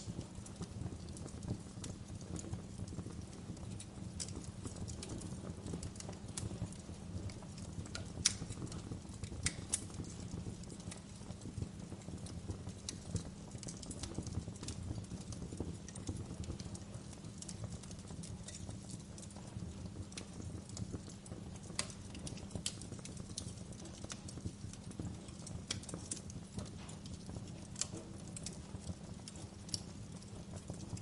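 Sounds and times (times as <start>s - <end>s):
fire popping and snapping: 0.0s - 31.0s
wood fire crackling: 0.0s - 31.0s.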